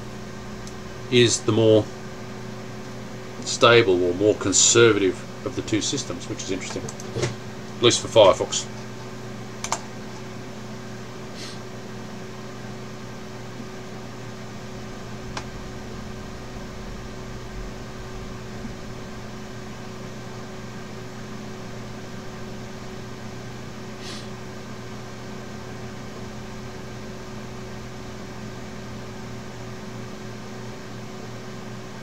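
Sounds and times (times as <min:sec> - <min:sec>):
machine hum with hiss: 0:00.0 - 0:32.0.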